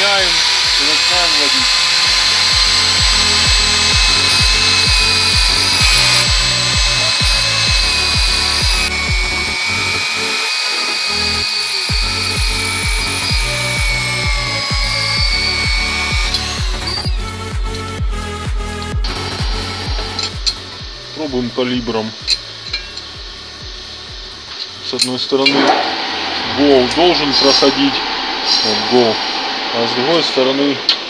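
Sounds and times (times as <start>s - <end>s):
background music with steady beat: 0.0s - 30.7s
electric drill whining: 0.0s - 31.0s.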